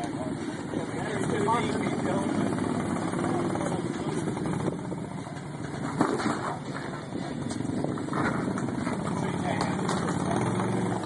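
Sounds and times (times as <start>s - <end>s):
truck engine at low revs: 0.0s - 11.0s.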